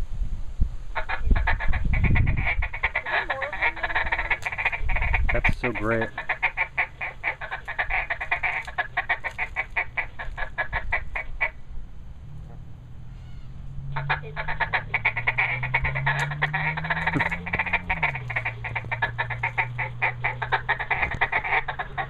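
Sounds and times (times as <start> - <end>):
low steady hum: 0.0 - 22.0
duck quacking through small amp: 1.0 - 11.6, 13.9 - 22.0.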